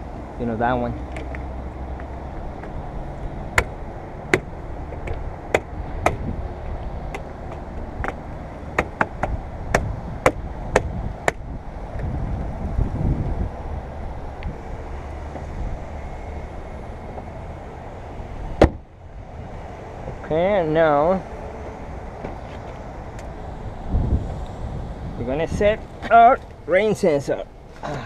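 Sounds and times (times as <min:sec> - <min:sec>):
steady low rumble: 0:00.0 - 0:27.8.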